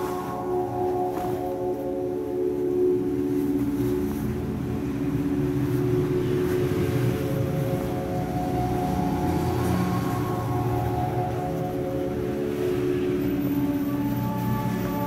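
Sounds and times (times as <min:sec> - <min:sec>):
ambient droning chords: 0:00.0 - 0:15.0.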